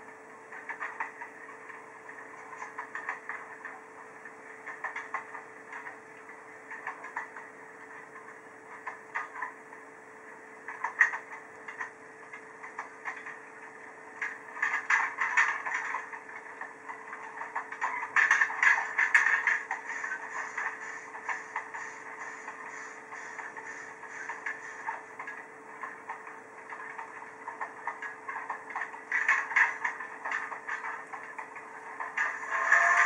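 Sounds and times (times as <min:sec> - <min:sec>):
steady hum: 0:00.0 - 0:33.0
train wheels clicking and rattling: 0:00.5 - 0:03.8, 0:04.6 - 0:09.6, 0:10.7 - 0:33.0.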